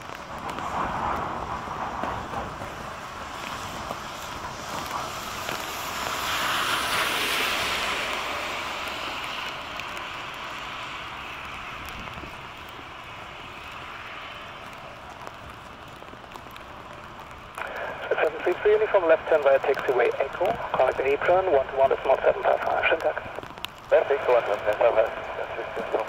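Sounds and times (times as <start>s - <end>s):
gusting storm wind: 0.0s - 26.0s.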